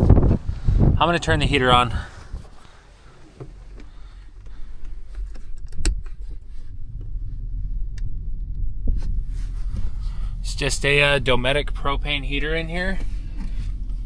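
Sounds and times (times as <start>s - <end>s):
heater low rumble: 0.0s - 14.0s.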